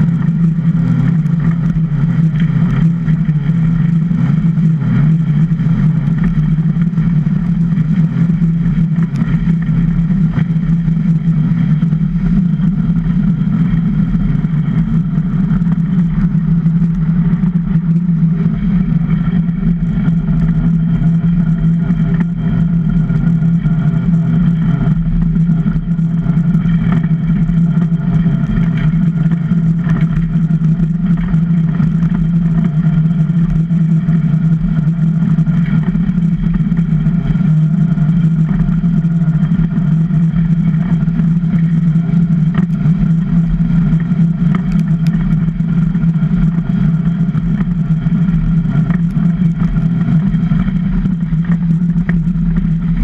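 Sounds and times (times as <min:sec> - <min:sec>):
constant low hum: 0:00.0 - 0:53.0
iceboat runners rumbling on ice: 0:00.0 - 0:53.0.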